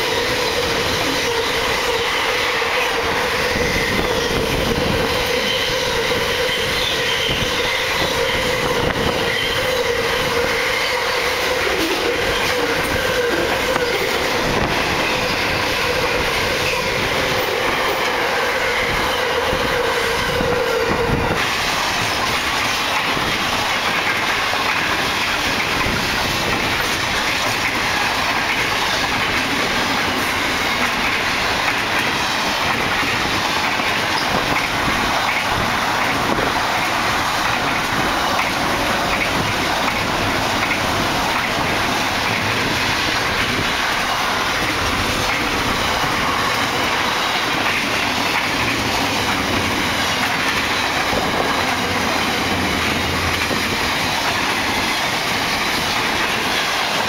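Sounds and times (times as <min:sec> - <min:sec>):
train wheels on rail: 0:00.0 - 0:57.0.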